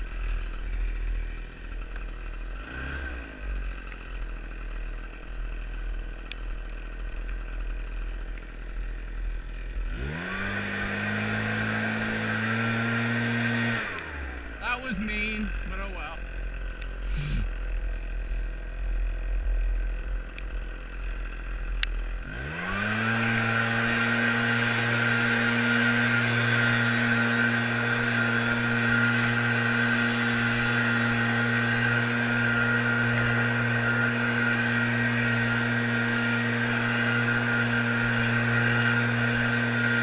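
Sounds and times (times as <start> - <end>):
two-stroke engine revving: 0.0 - 40.0.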